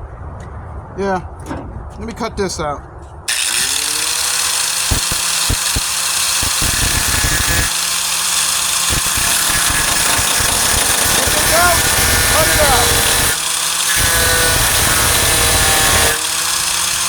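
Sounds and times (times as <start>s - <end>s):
angle grinder cutting sheet steel: 3.3s - 17.0s
grinder disc knocking on metal: 3.3s - 17.0s.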